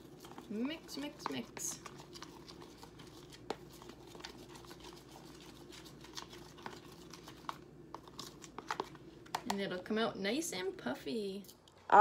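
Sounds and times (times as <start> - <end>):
spoon squishing foamy mix: 0.0 - 9.7.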